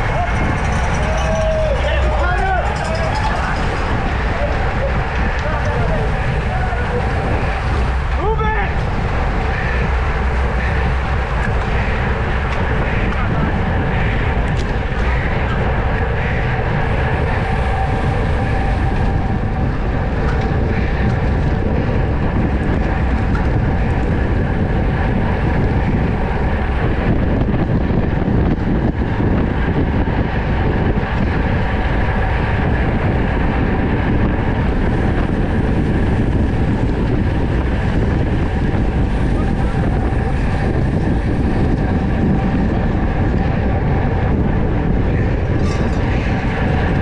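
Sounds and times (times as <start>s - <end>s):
bicycle whir: 0.0s - 47.0s
wind rushing: 0.0s - 47.0s.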